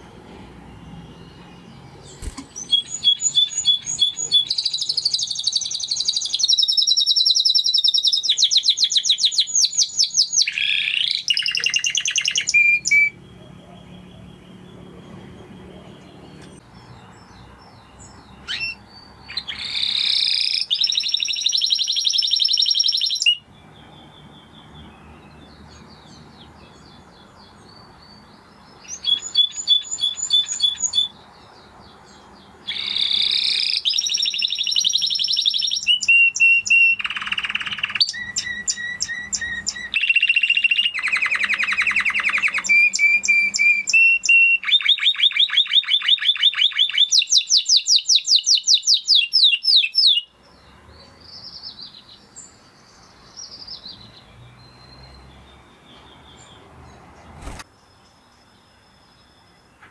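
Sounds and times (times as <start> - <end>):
soft bird chirps: 0.0 - 59.9
canary singing trills: 0.5 - 59.9.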